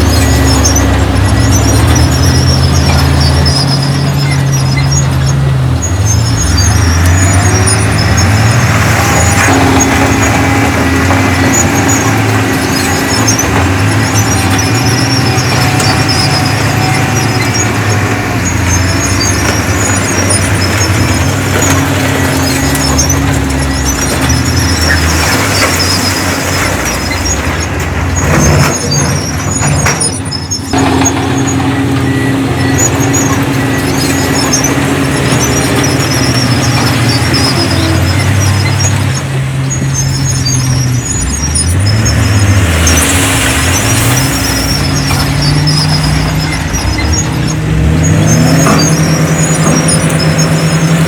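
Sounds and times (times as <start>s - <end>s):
bulldozer diesel engine: 0.0s - 51.0s
steel tracks squealing: 0.0s - 51.0s.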